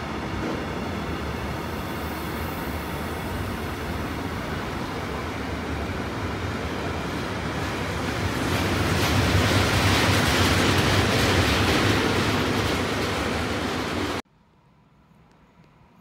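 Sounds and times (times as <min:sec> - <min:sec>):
train wheels rumbling on rail: 0:00.0 - 0:14.2.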